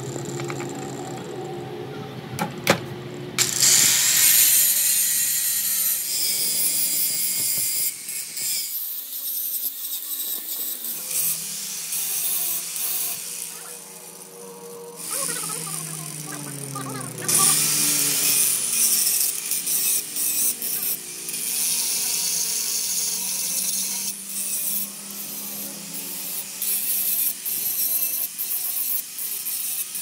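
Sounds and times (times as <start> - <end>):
angle grinder grinding metal: 3.4 - 30.0.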